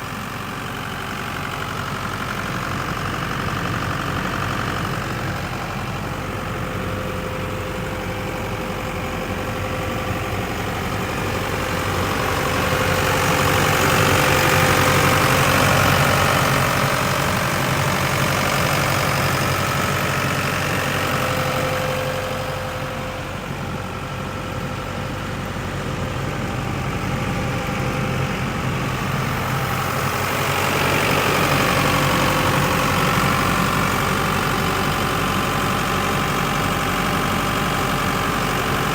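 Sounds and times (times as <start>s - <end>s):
air compressor engine idling: 0.0s - 38.9s.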